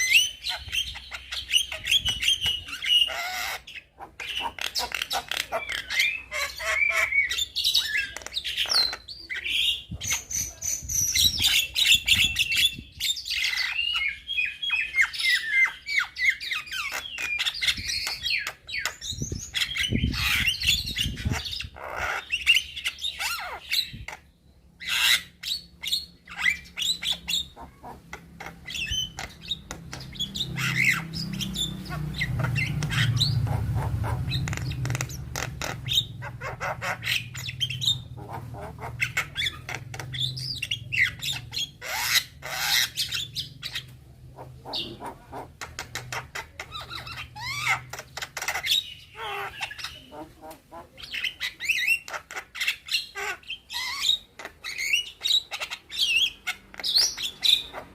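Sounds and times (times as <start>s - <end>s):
myna whistling and squawking: 0.0s - 57.9s.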